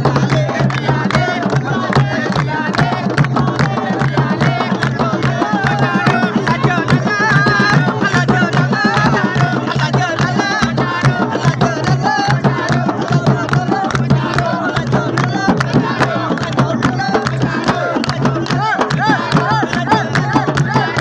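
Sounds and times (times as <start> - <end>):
barrel drums beaten fast: 0.0 - 21.0
voices singing: 0.0 - 21.0.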